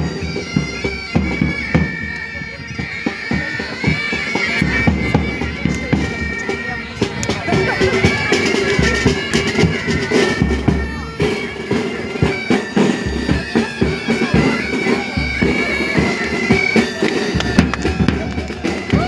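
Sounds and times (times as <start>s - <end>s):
bagpipes playing a march: 0.0s - 19.0s.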